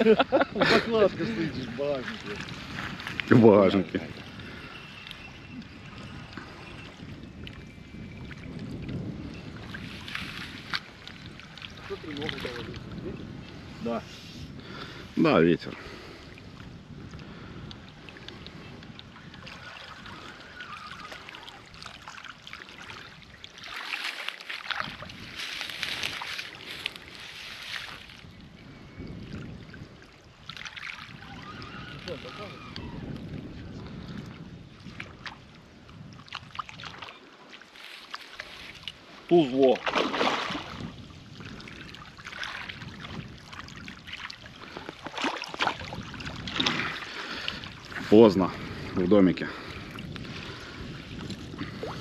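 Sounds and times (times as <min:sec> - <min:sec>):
water splashing and lapping: 0:00.0 - 0:52.0
wind buffeting microphone: 0:00.0 - 0:52.0.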